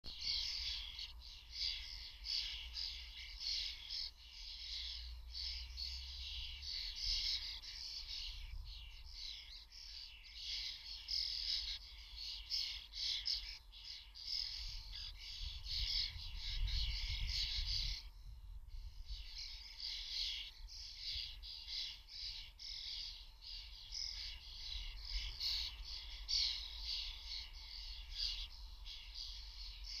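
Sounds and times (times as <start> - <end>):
starlings chattering: 0.0 - 30.0.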